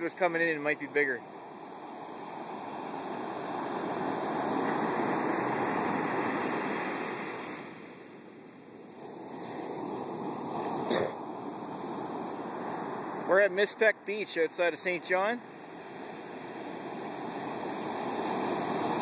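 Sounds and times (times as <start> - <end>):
waves breaking on a beach: 0.0 - 19.0.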